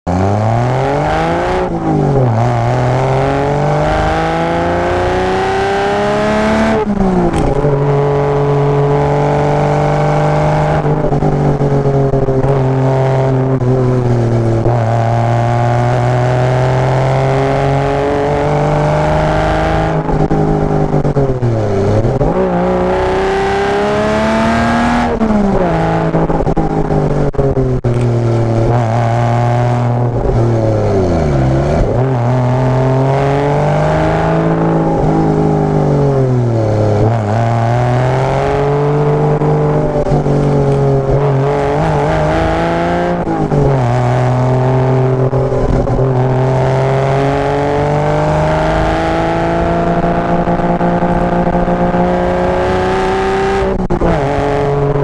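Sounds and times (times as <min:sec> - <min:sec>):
car engine accelerating: 0:00.1 - 0:55.0.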